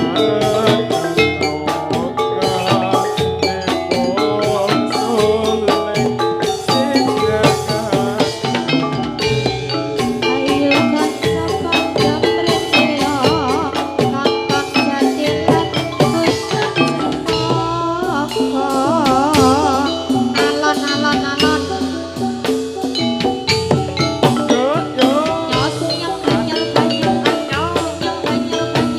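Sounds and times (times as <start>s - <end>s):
drum strokes: 0.0s - 28.9s
metal mallet percussion: 0.0s - 28.9s
wavering high melody: 0.0s - 28.9s.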